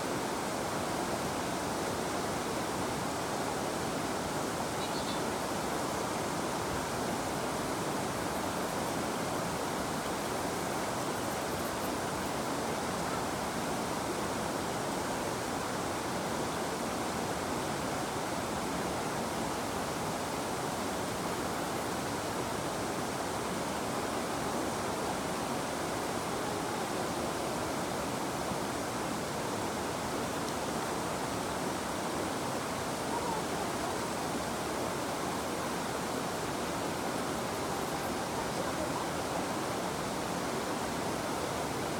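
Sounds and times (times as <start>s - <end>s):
river water flowing: 0.0s - 41.9s.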